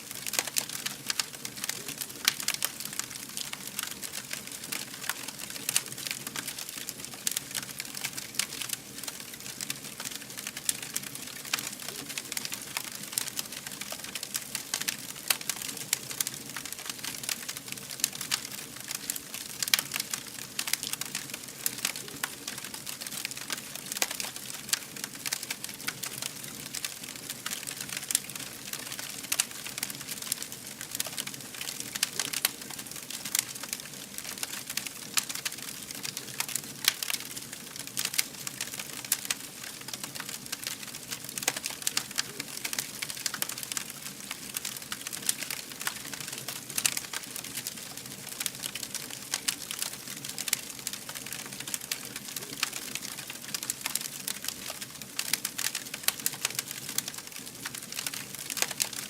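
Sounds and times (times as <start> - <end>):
fire crackling and popping: 0.0 - 59.0.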